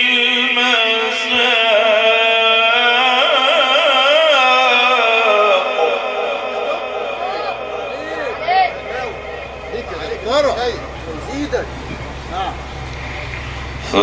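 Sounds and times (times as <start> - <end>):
man reciting in melodic chant: 0.0 - 14.0.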